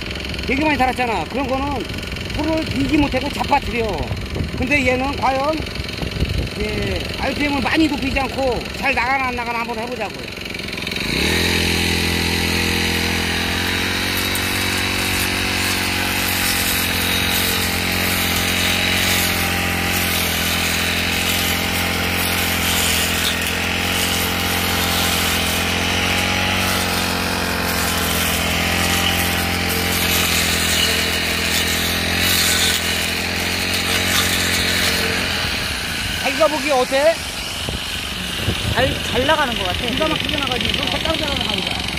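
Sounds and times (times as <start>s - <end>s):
blade cutting weeds: 0.0s - 41.9s
brush cutter engine running: 0.0s - 41.9s.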